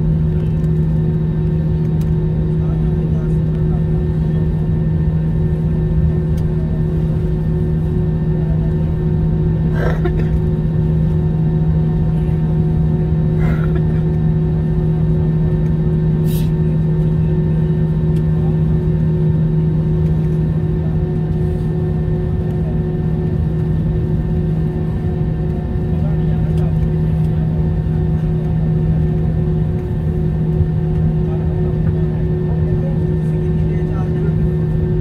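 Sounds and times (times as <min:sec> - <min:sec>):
airliner cabin low drone: 0:00.0 - 0:35.0.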